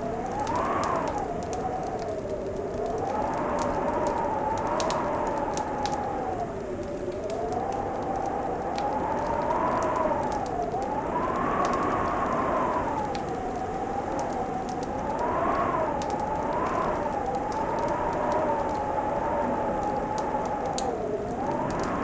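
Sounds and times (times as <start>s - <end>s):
wind howling: 0.0s - 22.0s
wood fire crackling: 0.0s - 22.0s.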